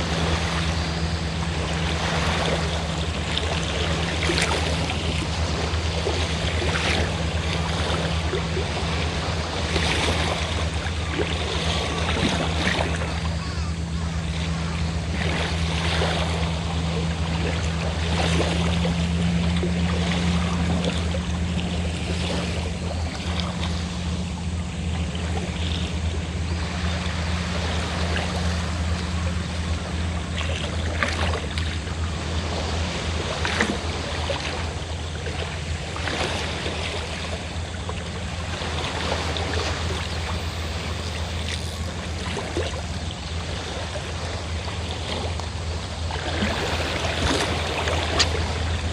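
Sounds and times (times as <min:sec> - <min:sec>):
boat engine humming: 0:00.0 - 0:48.9
waves splashing on shore: 0:00.0 - 0:48.9.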